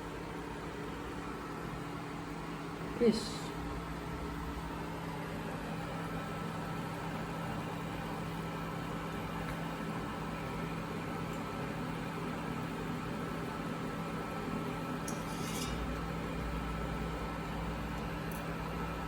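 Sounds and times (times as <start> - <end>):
appliance humming: 0.0 - 19.0.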